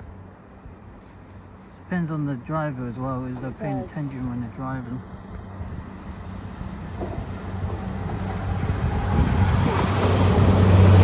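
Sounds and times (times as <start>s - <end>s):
rail noise: 0.0s - 11.0s
train engine hum: 0.0s - 11.0s.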